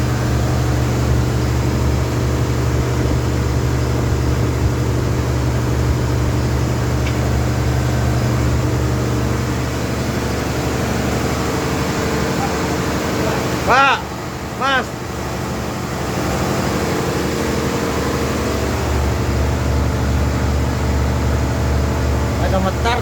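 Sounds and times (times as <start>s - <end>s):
machine humming: 0.0s - 23.0s.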